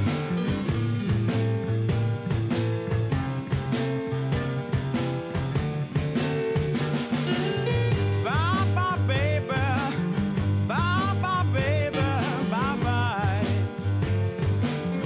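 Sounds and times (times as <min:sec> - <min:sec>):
rock song: 0:00.0 - 0:15.0
sliding lead guitar line: 0:00.0 - 0:15.0.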